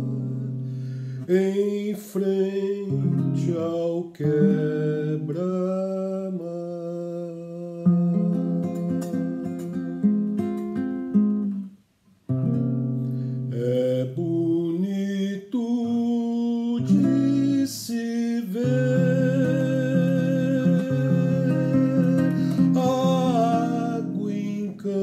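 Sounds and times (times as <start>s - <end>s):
man singing: 0.0s - 10.2s, 13.5s - 25.0s
acoustic guitar: 0.0s - 25.0s.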